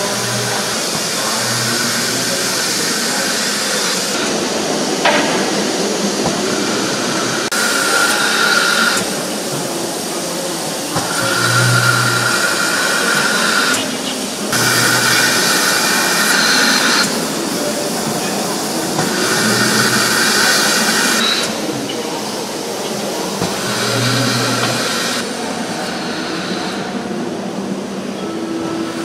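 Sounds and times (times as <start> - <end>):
steam locomotive venting steam: 0.0 - 29.0.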